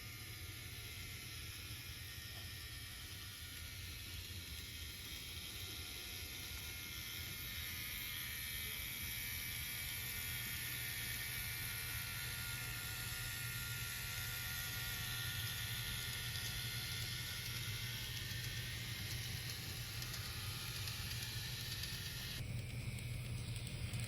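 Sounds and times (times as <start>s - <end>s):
model train motor whirring: 0.0s - 24.0s.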